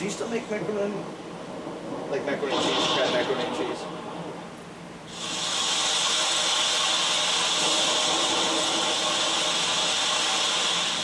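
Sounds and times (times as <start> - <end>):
steady hiss of noise: 0.0 - 11.0.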